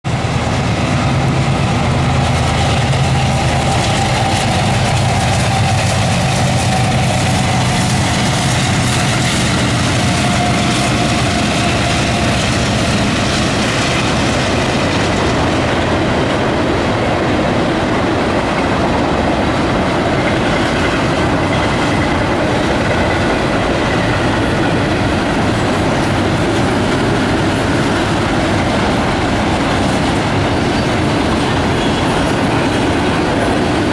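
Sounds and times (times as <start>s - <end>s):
diesel locomotive hum: 0.0s - 33.9s.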